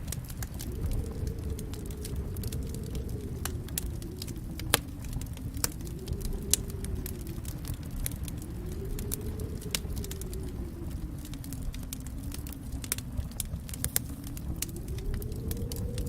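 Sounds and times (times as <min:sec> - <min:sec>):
faint hum: 0:00.0 - 0:16.0
wood fire crackling: 0:00.0 - 0:16.0.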